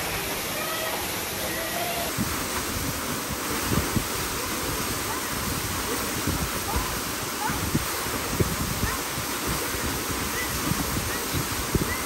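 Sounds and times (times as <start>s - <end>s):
low thumps of water: 0.0s - 12.0s
waterfall rushing: 0.0s - 12.0s.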